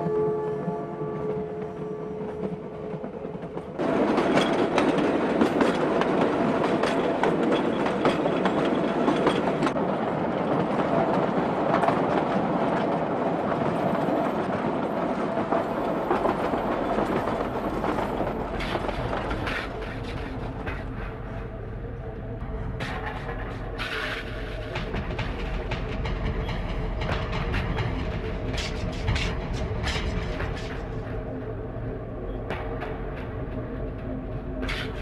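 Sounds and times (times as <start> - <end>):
train rumbling and rattling: 0.0 - 35.0.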